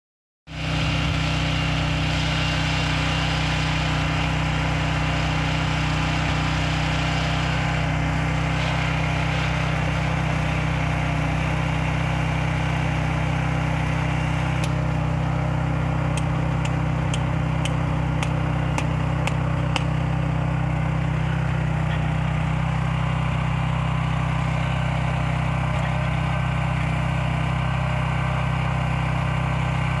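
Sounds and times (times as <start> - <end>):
small engine running: 0.5 - 30.0.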